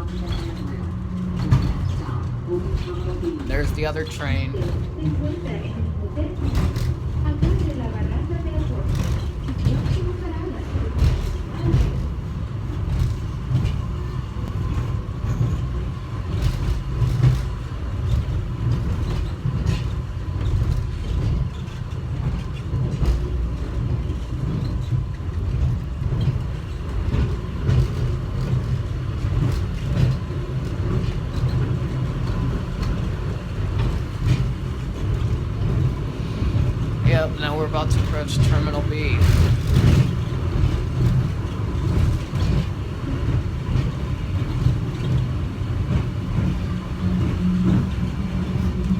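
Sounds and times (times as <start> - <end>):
train rumbling: 0.0 - 48.9.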